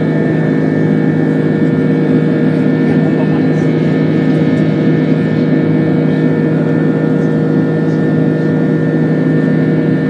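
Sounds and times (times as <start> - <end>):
jet engine buzzsaw in cabin: 0.0 - 10.0.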